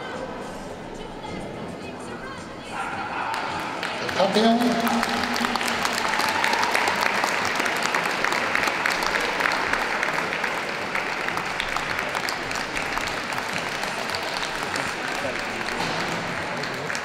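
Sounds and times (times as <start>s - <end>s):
audience applauding: 3.3s - 17.0s.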